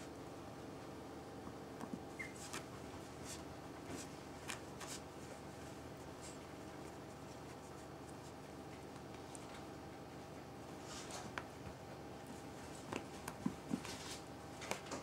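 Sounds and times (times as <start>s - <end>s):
faint room hiss: 0.0s - 15.0s
puppy rustling on carpet: 1.9s - 15.0s.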